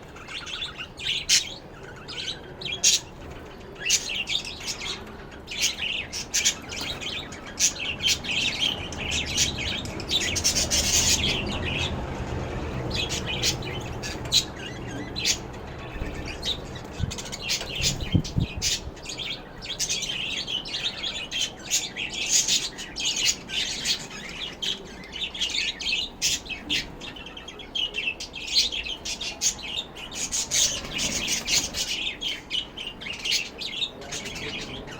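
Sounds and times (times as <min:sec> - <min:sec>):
lovebirds chirping and chattering: 0:00.0 - 0:34.9.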